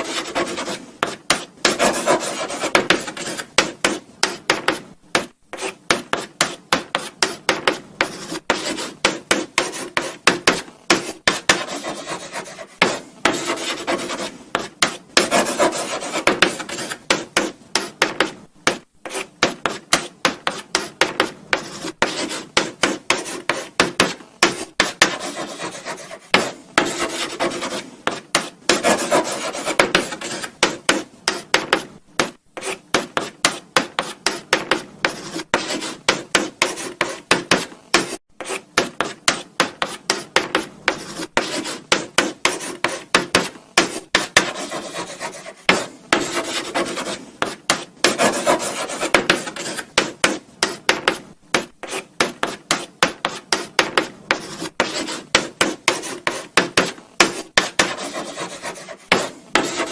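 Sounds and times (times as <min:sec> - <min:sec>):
chalk scratching on blackboard: 0:00.0 - 0:59.9.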